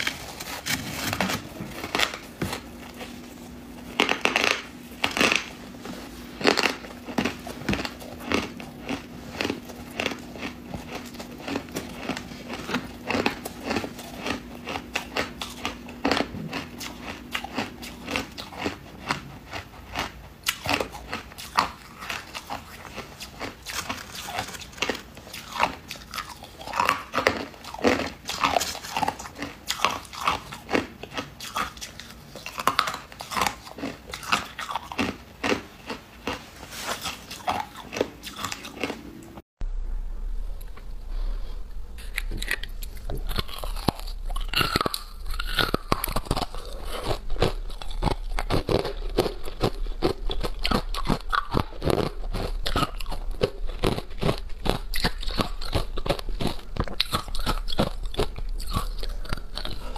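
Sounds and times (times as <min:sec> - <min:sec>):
chewing crushed ice crunches: 0:00.0 - 0:39.2, 0:42.0 - 0:59.9.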